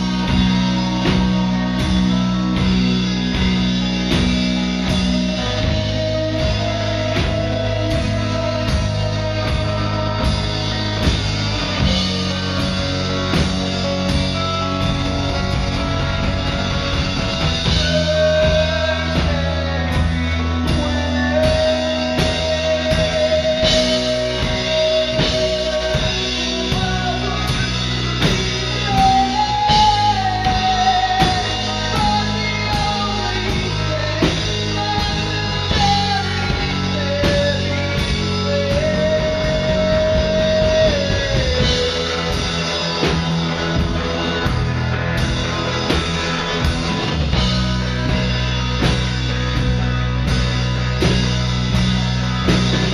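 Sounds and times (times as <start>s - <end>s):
person singing: 0.0s - 43.6s
rock band playing: 0.0s - 52.9s.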